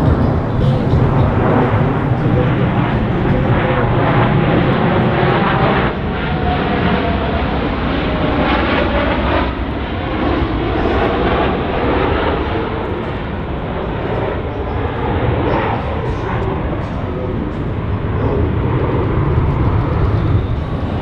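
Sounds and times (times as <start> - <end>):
aircraft engine flying past: 0.0 - 21.0.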